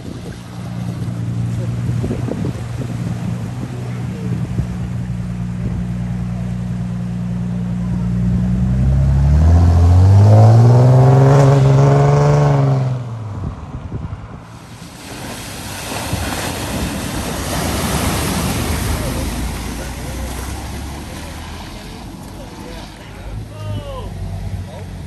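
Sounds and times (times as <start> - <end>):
car splashing through water: 0.0 - 13.5, 14.4 - 25.0
car engine revving: 0.5 - 15.4, 16.0 - 25.0.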